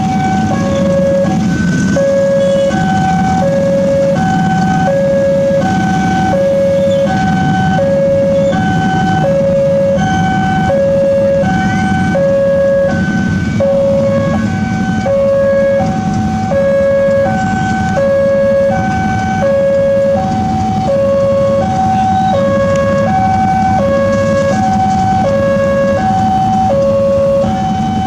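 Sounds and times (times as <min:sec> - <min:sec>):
motorbike and traffic engines idling: 0:00.0 - 0:28.0
two-tone level crossing alarm: 0:00.0 - 0:28.0.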